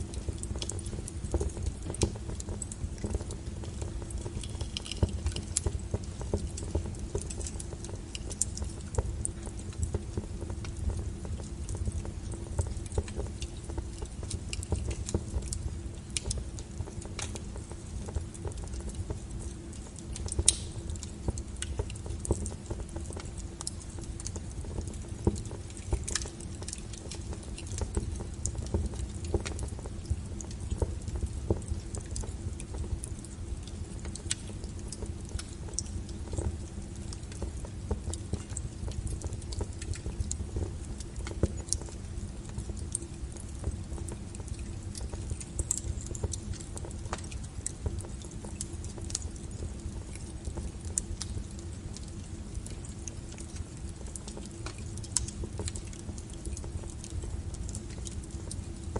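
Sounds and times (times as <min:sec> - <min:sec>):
low rumble of flames: 0:00.0 - 0:58.9
wood fire crackling and popping: 0:00.0 - 0:58.9.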